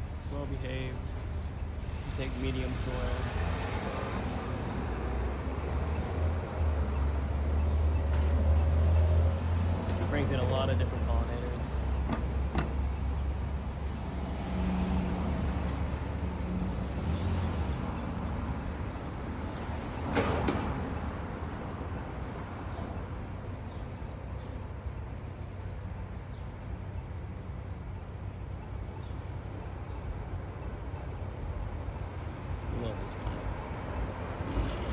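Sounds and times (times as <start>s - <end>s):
low rumble of city traffic: 0.0s - 34.9s.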